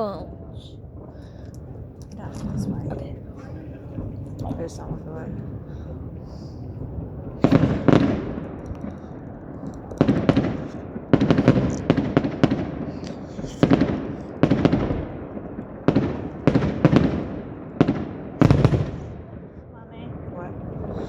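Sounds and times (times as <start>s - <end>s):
fireworks booming: 0.0s - 21.0s.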